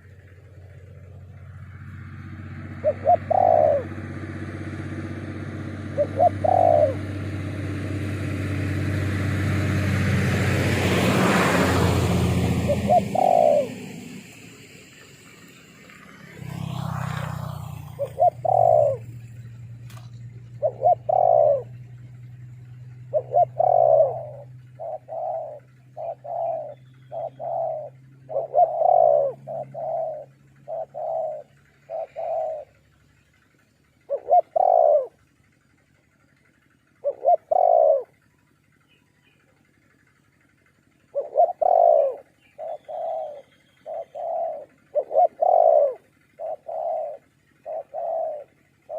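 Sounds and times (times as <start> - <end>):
doves cooing: 0.0 - 48.9
steady low hum: 0.0 - 48.9.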